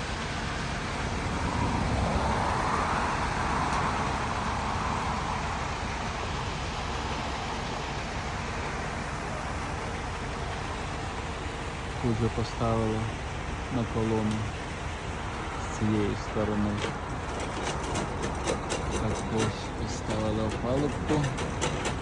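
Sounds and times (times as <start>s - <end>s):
engine rumble: 0.0s - 22.0s.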